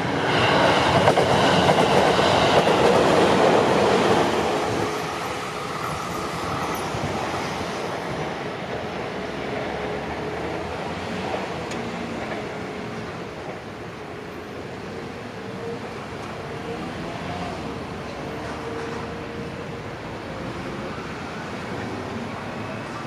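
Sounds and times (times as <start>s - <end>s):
train wheels rumbling on rail: 0.0s - 15.2s, 15.9s - 20.1s.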